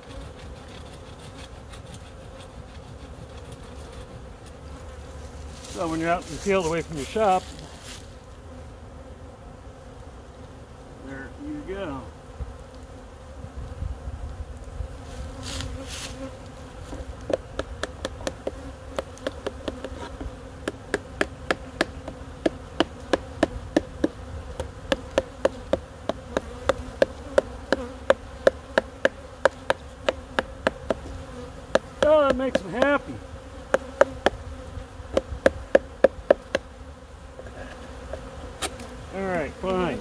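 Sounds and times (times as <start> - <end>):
honeybee colony buzzing: 0.0 - 40.0.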